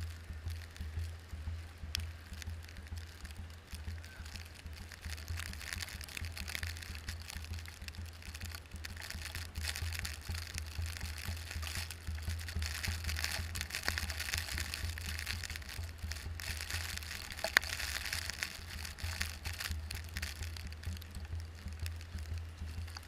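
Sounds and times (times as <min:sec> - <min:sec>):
tyres crackling on snow: 0:00.0 - 0:23.0.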